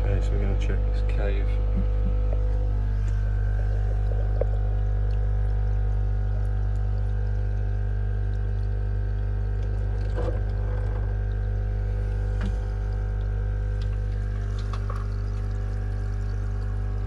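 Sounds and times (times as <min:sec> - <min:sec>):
pumps humming: 0:00.0 - 0:17.0
water lapping in fish tank: 0:00.0 - 0:17.0
water splashing: 0:01.7 - 0:17.0.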